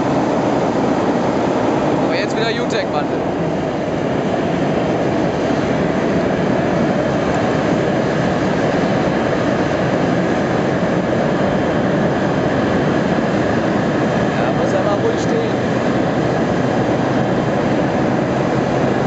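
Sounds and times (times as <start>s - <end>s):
gas burners rushing: 0.0s - 19.0s.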